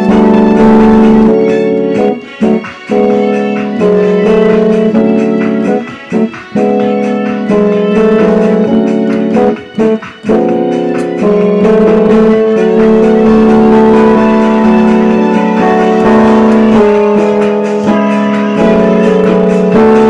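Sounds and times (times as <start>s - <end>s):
organ-like keyboard chords: 0.0s - 20.0s.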